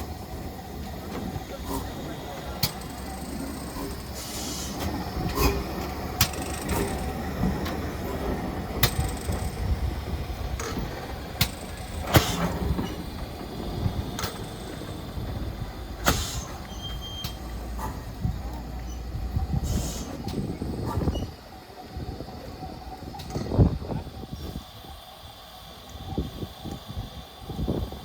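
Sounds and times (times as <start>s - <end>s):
steam train rumbling: 0.0s - 28.0s.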